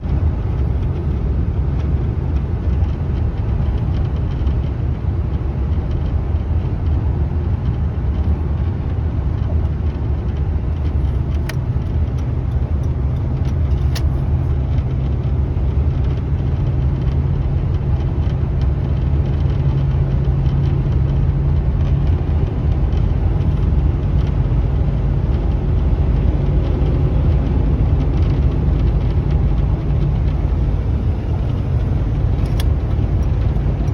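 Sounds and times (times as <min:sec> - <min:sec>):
vehicle engine and road rumble: 0:00.0 - 0:33.9.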